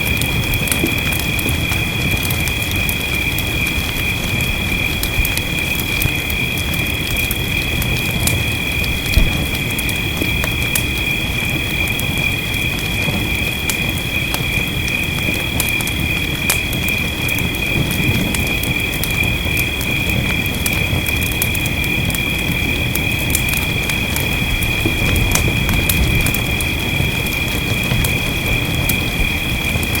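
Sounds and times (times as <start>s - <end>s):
fireplace crackling and popping: 0.0s - 30.0s
rain: 0.0s - 30.0s.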